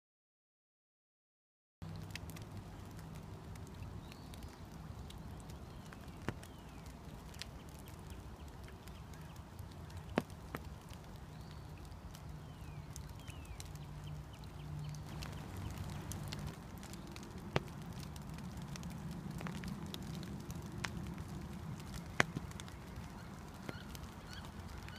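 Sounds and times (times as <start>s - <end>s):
raindrops on water: 1.8s - 24.9s.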